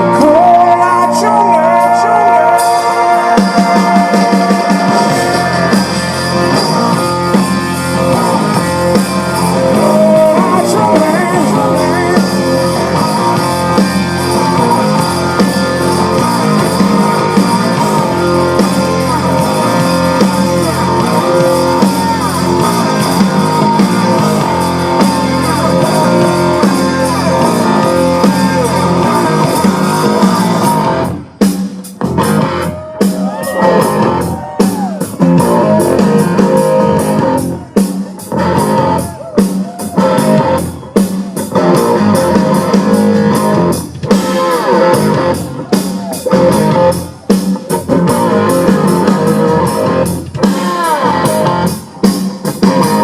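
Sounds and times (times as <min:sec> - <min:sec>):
blues-rock band playing: 0:00.0 - 0:53.0
electric guitar lead bending notes: 0:00.0 - 0:53.0.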